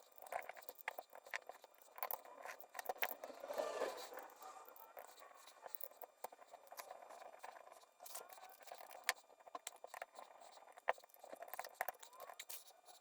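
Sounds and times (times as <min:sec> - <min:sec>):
small metal parts clicking and scraping: 0:00.0 - 0:13.0.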